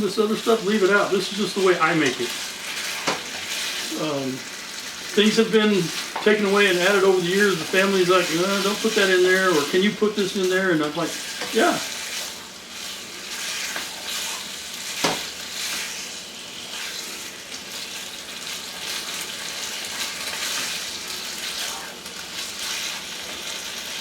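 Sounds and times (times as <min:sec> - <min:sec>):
chicken sizzling in a frying pan: 0:00.0 - 0:24.0.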